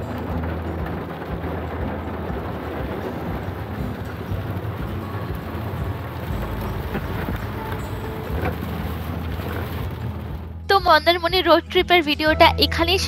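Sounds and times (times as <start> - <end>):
car driving in heavy rain: 0.0 - 10.7.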